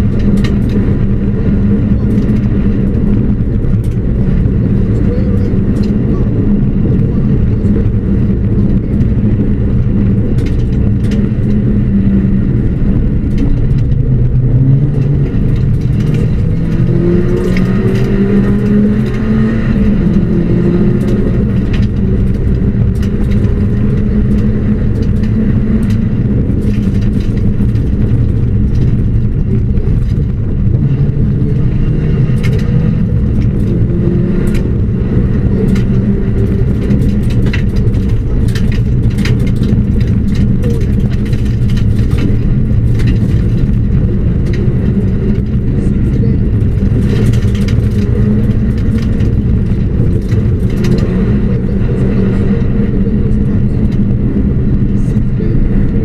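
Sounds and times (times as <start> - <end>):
rally car engine revving: 0.0 - 56.0
road noise: 0.0 - 56.0.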